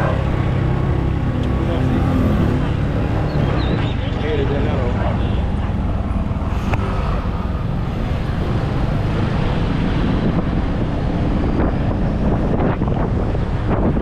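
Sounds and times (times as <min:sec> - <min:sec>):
traffic: 0:00.0 - 0:14.0
wind buffeting microphone: 0:00.0 - 0:14.0.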